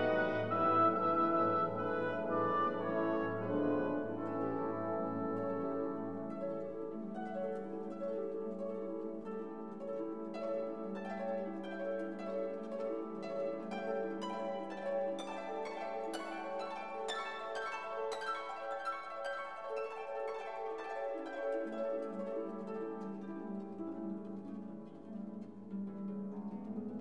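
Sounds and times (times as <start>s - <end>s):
plucked string melody: 0.0s - 27.0s.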